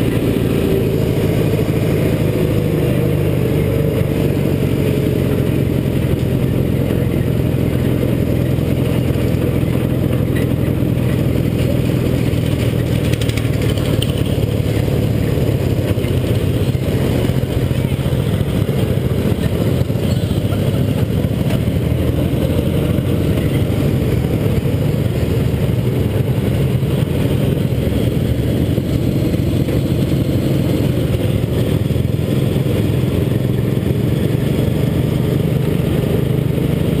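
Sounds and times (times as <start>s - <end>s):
lawn tractor engine running: 0.0s - 37.0s.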